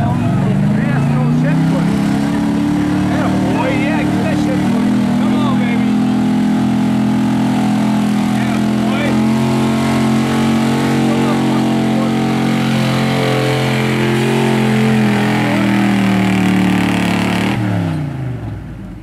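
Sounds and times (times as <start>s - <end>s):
truck engine running at high revs: 0.0s - 19.0s.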